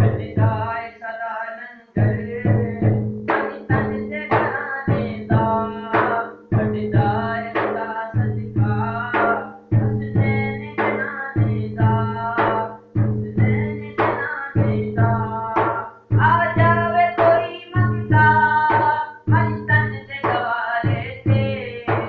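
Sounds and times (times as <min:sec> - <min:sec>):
man singing: 0:00.0 - 0:22.0
steel hand drum struck: 0:02.0 - 0:22.0.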